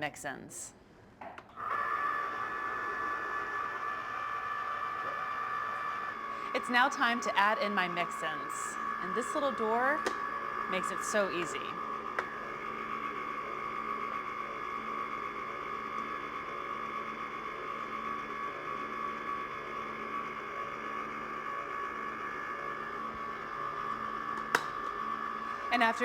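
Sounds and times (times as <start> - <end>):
ice cream machine motor hum: 1.6 - 26.0.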